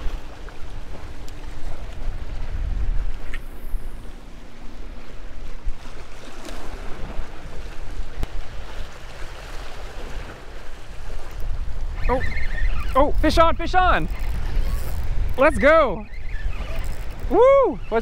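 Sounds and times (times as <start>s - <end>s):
sea water washing against rocks: 0.0s - 15.2s
wind buffeting microphone: 0.0s - 18.0s.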